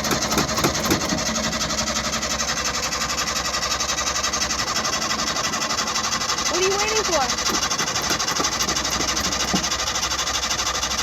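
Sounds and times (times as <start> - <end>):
starter motor cranking engine: 0.0 - 11.0.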